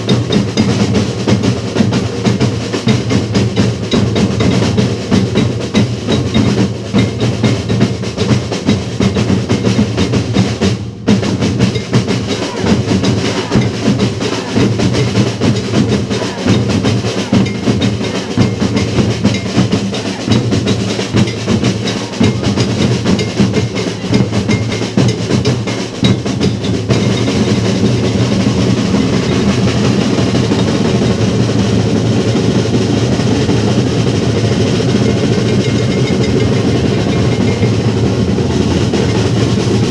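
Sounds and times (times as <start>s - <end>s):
drum-led percussion music: 0.0s - 39.9s.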